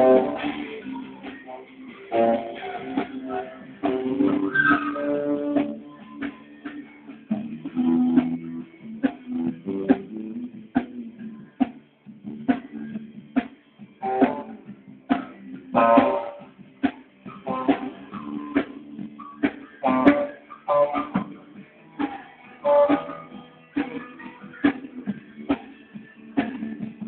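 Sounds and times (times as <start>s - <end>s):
guitar picked and strummed: 0.0s - 27.0s.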